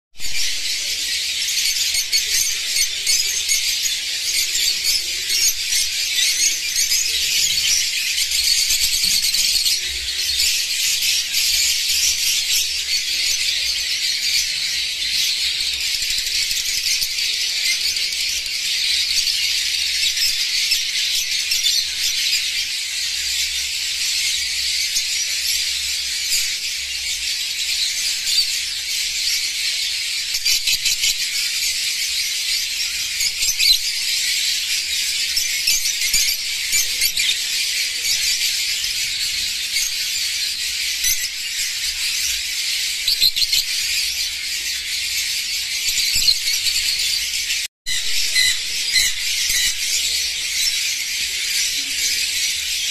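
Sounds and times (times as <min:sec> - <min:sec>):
lovebirds chattering: 0:00.2 - 0:52.9.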